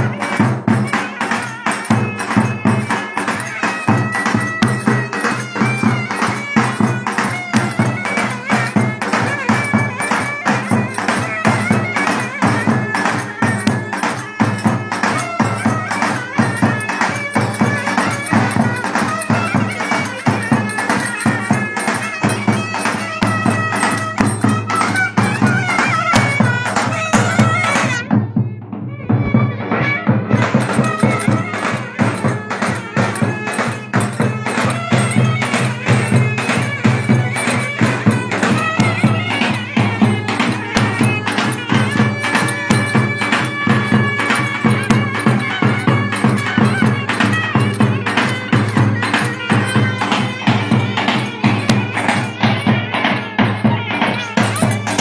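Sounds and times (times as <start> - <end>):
fast percussion: 0.0 - 55.0
clarinets playing melody: 0.2 - 28.1, 29.0 - 55.0.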